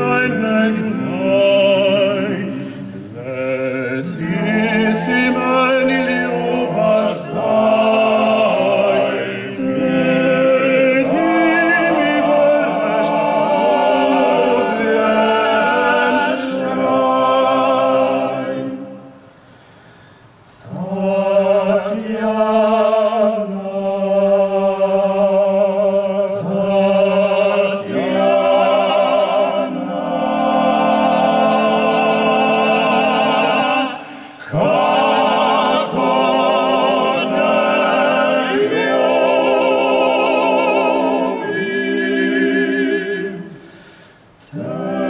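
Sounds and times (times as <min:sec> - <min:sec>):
male choir singing a cappella: 0:00.0 - 0:19.4, 0:20.6 - 0:45.0.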